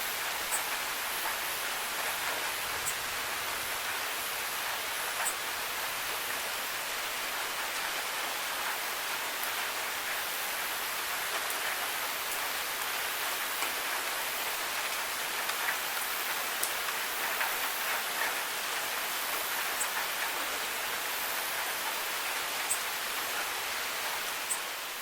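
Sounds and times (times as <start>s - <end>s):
rain on hard surfaces: 0.0s - 25.0s.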